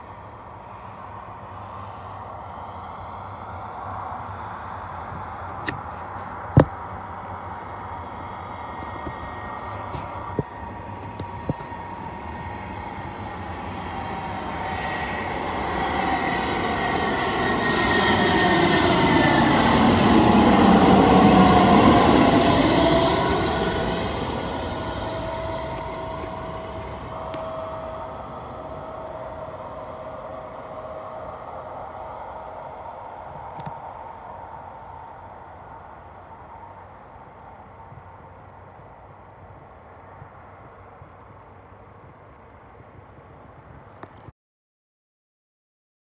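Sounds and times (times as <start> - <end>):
jet airliner passing overhead: 0.0 - 40.8.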